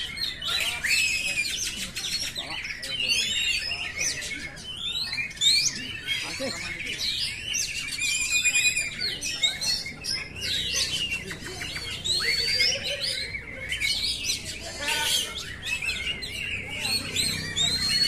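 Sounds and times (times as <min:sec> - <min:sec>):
bird singing whistled song: 0:00.0 - 0:18.0.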